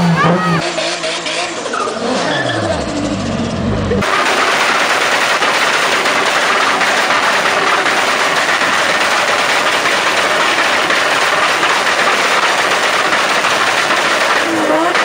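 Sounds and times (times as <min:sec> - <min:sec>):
car engine: 0:00.0 - 0:15.0.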